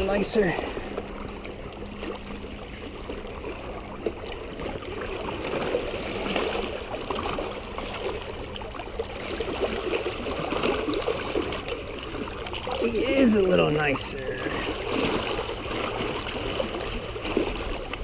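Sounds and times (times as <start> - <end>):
water lapping against rocks: 0.0 - 18.0.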